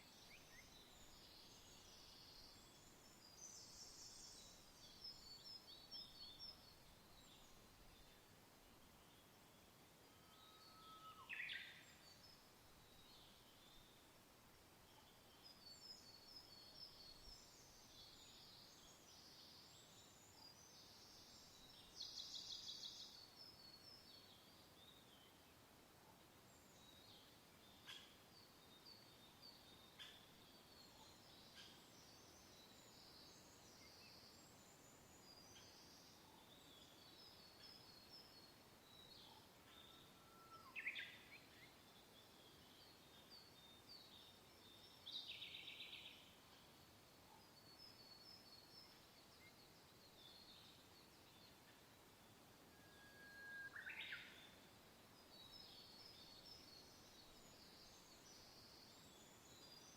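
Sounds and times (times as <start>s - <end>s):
faint birdsong chirps and whistles: 0.0s - 59.9s.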